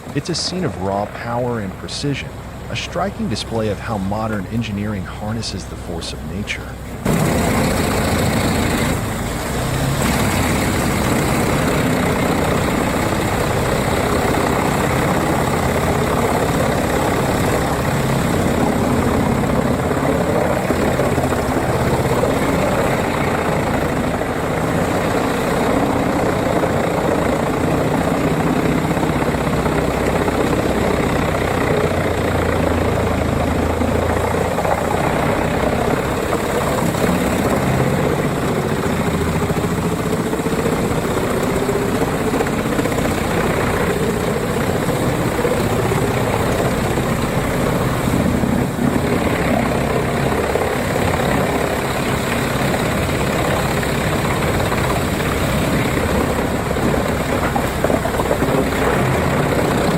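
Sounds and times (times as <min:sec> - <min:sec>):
wood chipper shredding wood: 0:07.0 - 0:59.9.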